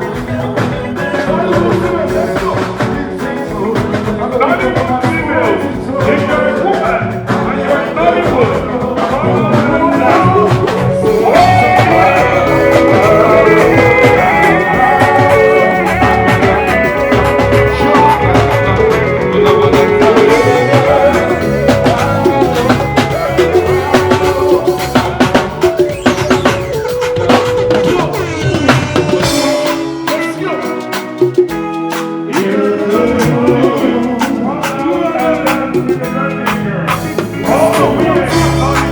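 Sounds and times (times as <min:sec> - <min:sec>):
loud party music with singing: 0:00.0 - 0:38.9.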